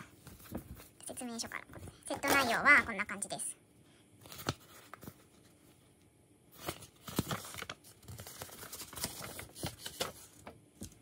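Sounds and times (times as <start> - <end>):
paper rustling and crinkling: 0.0 - 2.9, 4.2 - 5.8, 6.5 - 11.0.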